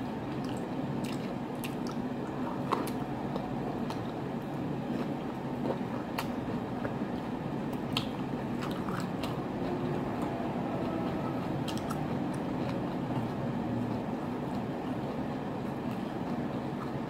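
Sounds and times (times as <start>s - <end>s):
person chewing food: 0.3s - 17.0s.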